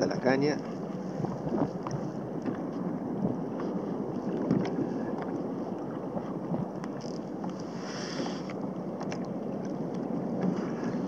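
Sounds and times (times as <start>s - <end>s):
water lapping against kayak: 0.0s - 11.0s
wind buffeting microphone: 0.0s - 11.0s.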